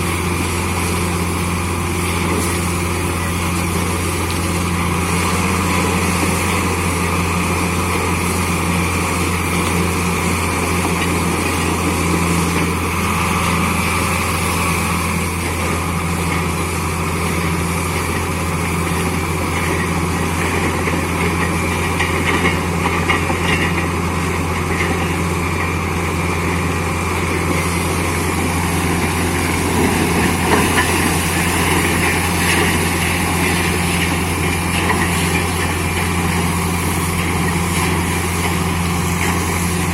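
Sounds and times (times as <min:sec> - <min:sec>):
drilling rig engine humming: 0:00.0 - 0:39.9.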